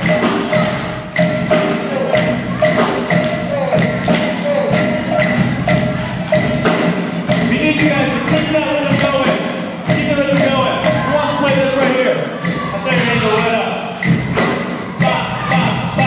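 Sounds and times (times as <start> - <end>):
street band percussion: 0.0 - 16.0.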